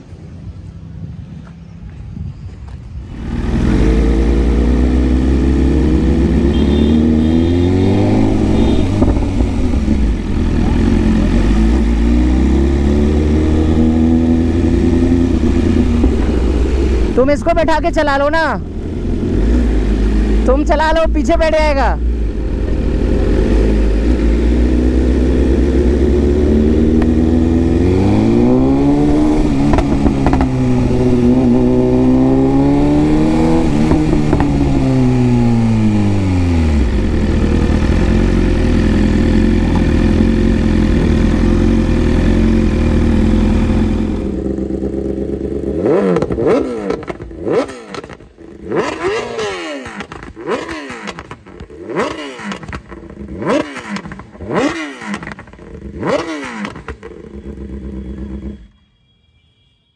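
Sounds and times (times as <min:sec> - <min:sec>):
motorcycle engine revving: 0:03.0 - 0:58.8.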